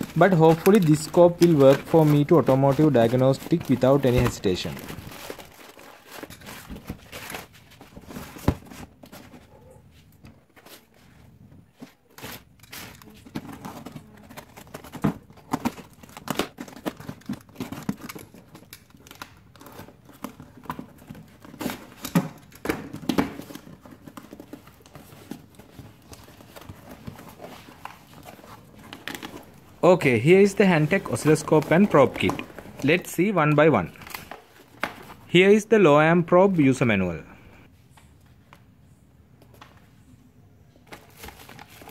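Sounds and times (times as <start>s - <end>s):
cardboard crinkling and rustling: 0.0s - 35.4s, 40.8s - 41.9s.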